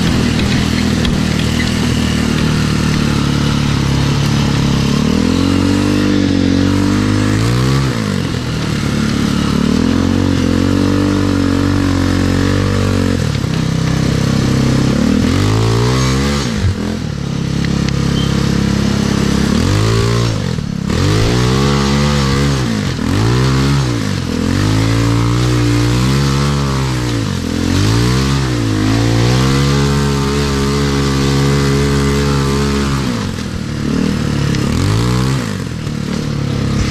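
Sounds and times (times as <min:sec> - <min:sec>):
buggy engine revving: 0:00.0 - 0:36.9
constant rushing noise: 0:00.0 - 0:36.9.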